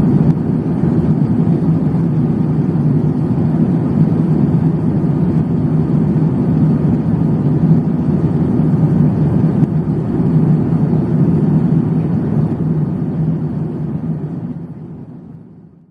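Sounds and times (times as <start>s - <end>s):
airliner cabin engine rumble: 0.0s - 15.9s
constant hum: 0.0s - 15.9s.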